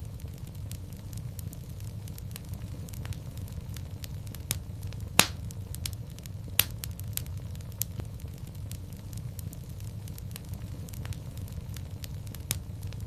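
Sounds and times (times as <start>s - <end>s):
fireplace fire crackling: 0.0s - 13.0s
loud pops of fire: 0.0s - 13.0s.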